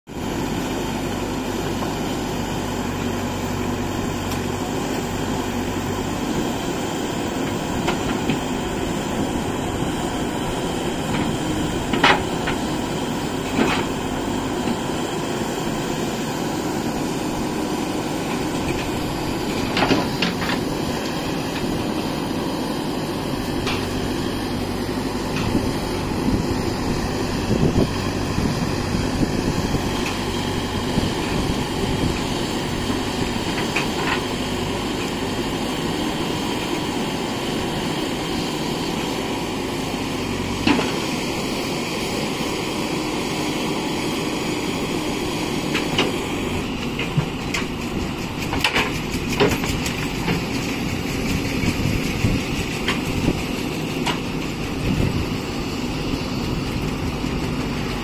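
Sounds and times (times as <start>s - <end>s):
diesel engine under load: 0.1s - 58.0s.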